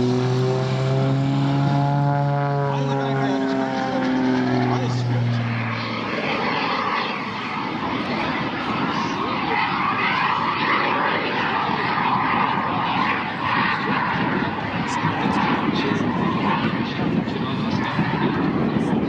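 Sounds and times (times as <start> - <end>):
distant aircraft noise: 0.0 - 19.0
propeller airplane engine droning: 0.0 - 19.0.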